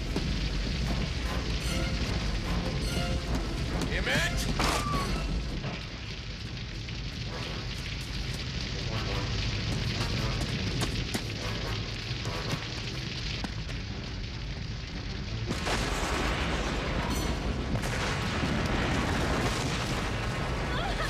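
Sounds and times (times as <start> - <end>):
fire rumbling and crackling: 0.0 - 21.0
fire whoosh: 0.0 - 21.0.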